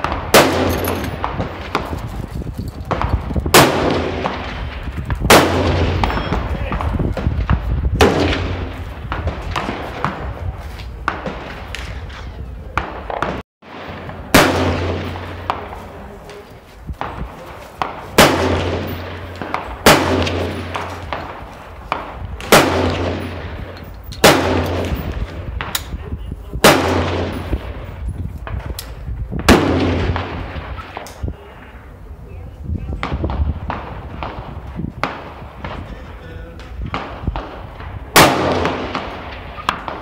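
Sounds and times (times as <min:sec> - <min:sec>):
gunshots with echo: 0:00.0 - 0:02.2, 0:02.8 - 0:26.0, 0:26.6 - 0:28.7, 0:29.4 - 0:31.1, 0:36.8 - 0:40.0.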